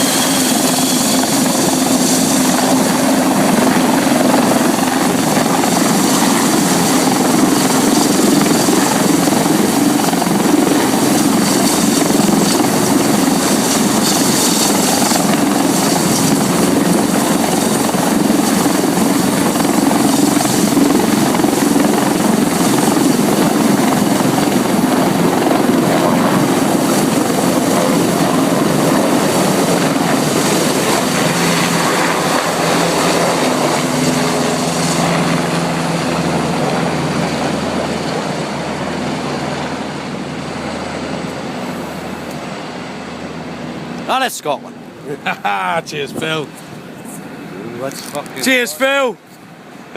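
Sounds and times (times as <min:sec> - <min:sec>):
helicopter engine and rotor: 0:00.0 - 0:49.9.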